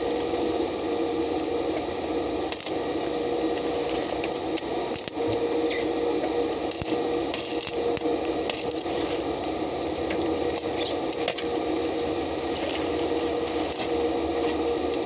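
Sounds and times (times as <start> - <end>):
steady hum: 0.0 - 15.0
welding arc crackling: 1.7 - 5.9, 6.6 - 15.0.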